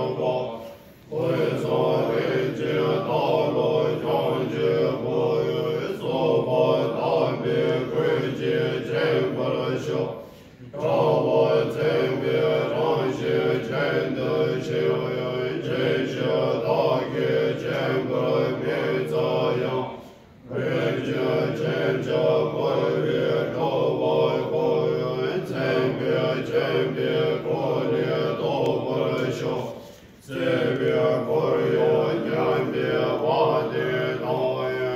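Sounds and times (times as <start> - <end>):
monks chanting in low tones: 0.0 - 34.9.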